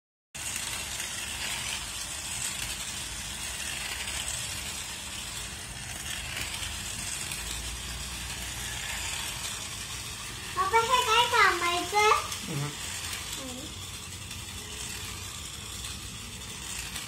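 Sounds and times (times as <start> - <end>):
toy slot cars whirring: 0.4 - 17.0.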